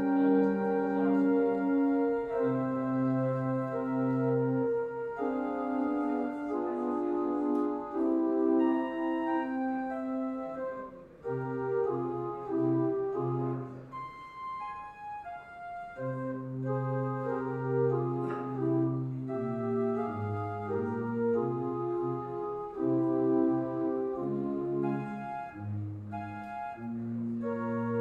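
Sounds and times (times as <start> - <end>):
church organ chords: 0.0 - 28.0
low organ pedal bass: 0.0 - 28.0.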